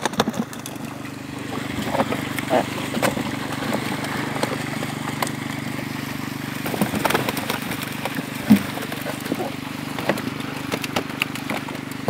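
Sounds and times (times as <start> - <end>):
motor humming: 0.0 - 12.0
splashes: 0.0 - 12.0.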